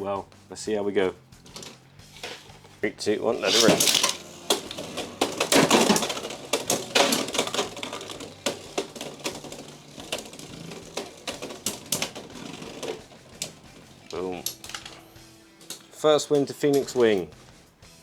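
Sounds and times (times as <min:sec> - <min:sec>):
spinning tops clicking and clashing: 0:01.4 - 0:17.4.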